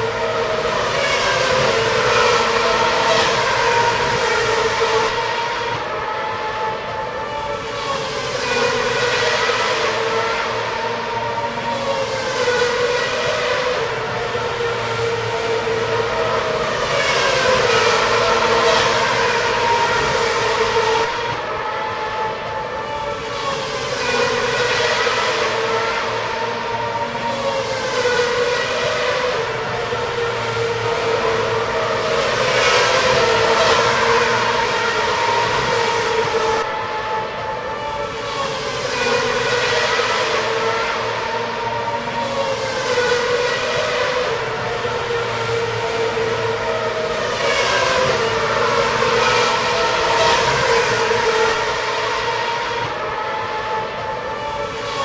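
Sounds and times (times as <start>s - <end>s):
racing car engines at high revs: 0.0s - 55.0s.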